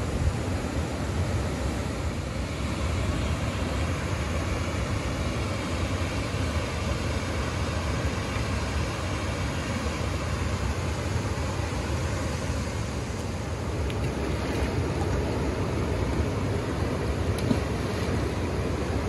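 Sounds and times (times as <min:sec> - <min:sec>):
rushing noise with low rumble: 0:00.0 - 0:19.0.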